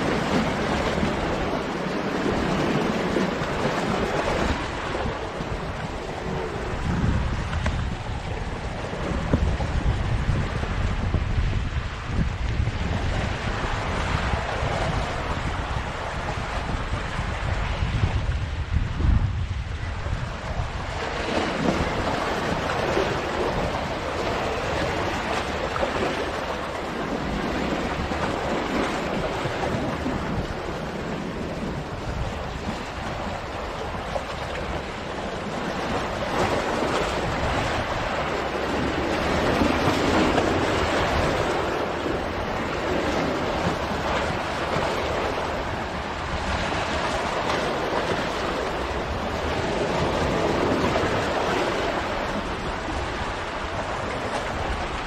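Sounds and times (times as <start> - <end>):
waves breaking on rocks: 0.0 - 55.0
wind rumbling on microphone: 0.0 - 55.0.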